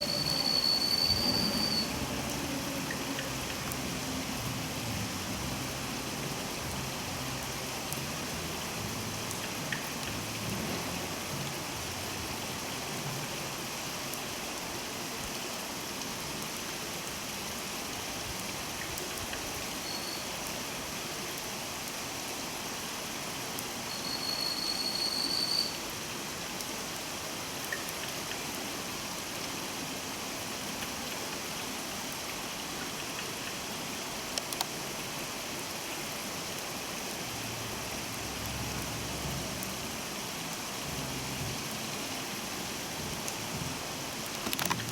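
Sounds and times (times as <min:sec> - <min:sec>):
river water rushing: 0:00.0 - 0:18.8, 0:25.2 - 0:44.9.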